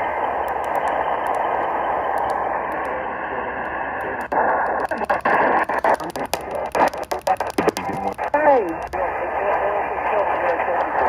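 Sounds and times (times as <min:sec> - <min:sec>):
radio static hiss: 0:00.0 - 0:11.0
radio tuning clicks: 0:00.0 - 0:11.0.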